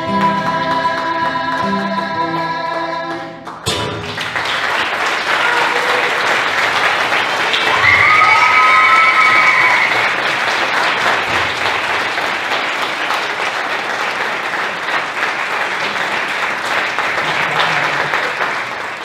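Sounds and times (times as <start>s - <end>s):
audience applauding: 3.4s - 19.0s.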